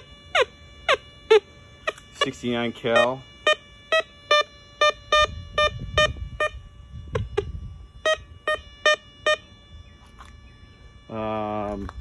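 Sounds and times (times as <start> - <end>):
metal detector beeps: 0.0 - 12.0.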